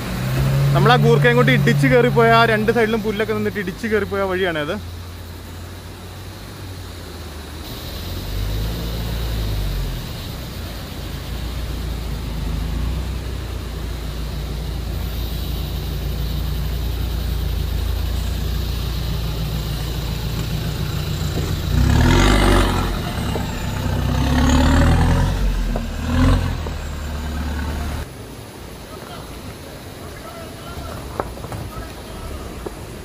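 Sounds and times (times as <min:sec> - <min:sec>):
off-road engine revving: 0:00.0 - 0:28.1.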